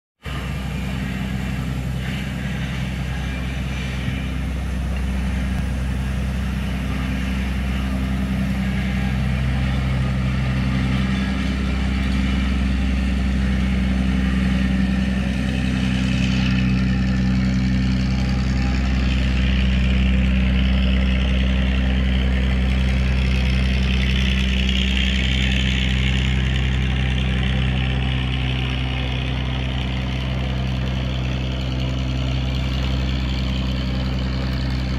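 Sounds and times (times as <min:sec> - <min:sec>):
ferry engine humming: 0:00.2 - 0:34.9.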